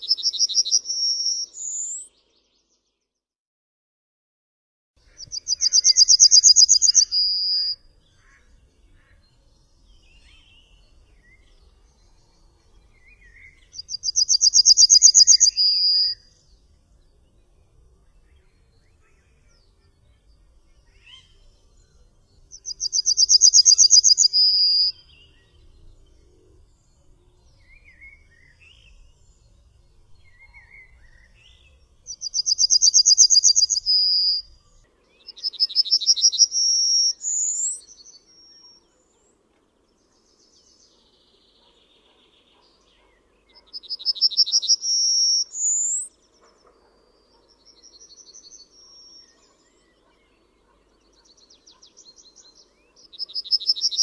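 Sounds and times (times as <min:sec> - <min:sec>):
bird singing: 0:00.0 - 0:03.1, 0:05.0 - 0:54.0.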